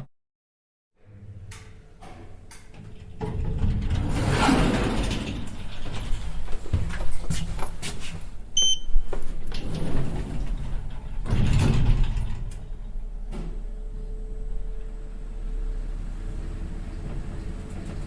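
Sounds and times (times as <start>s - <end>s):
elevator doors sliding and clunking: 1.0s - 18.0s.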